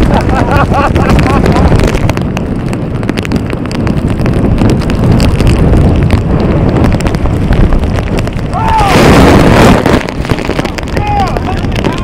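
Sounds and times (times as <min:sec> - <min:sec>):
breaking surf: 0:00.0 - 0:12.0
rain spattering camera: 0:00.0 - 0:12.0
wind buffeting microphone: 0:00.0 - 0:12.0.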